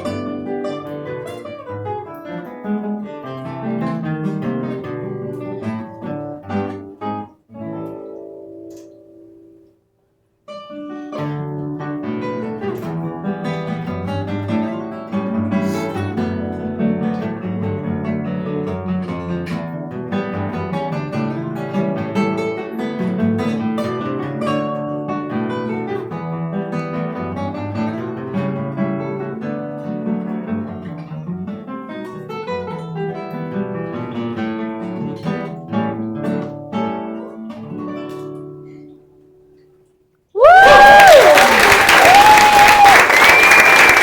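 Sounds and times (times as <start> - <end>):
solo acoustic guitar: 0.0 - 40.3.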